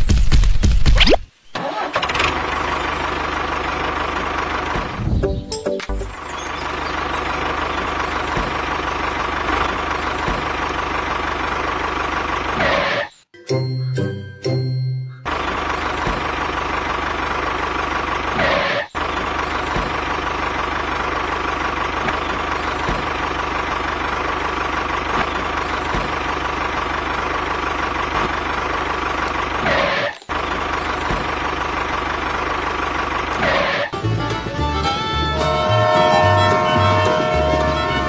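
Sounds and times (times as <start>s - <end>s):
heavy engine running: 1.6s - 38.0s.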